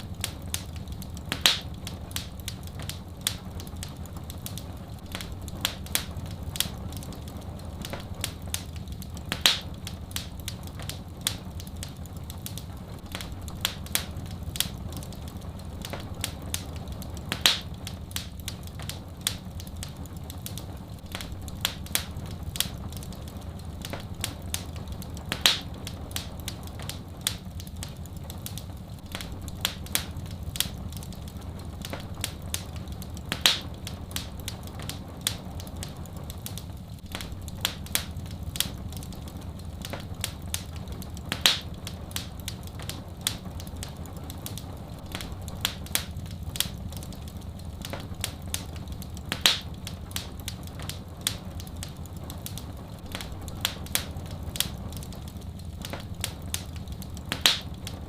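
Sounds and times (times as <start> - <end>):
loud fire pops: 0.0 - 58.0
wood fire crackling: 0.0 - 58.0.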